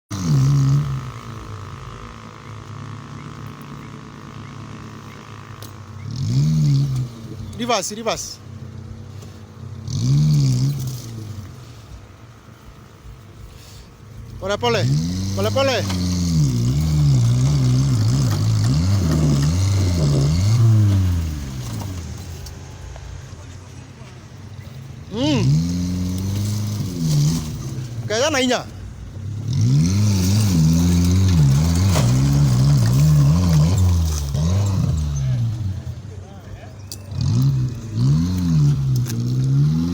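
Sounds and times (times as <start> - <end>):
vehicle engine running at low revs: 0.1 - 39.9.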